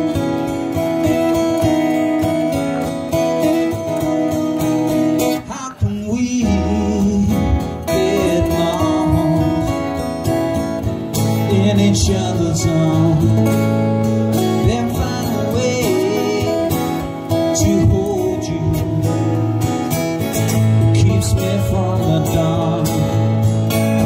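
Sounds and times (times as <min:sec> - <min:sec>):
acoustic guitars strummed: 0:00.0 - 0:24.0
man singing: 0:00.9 - 0:24.0.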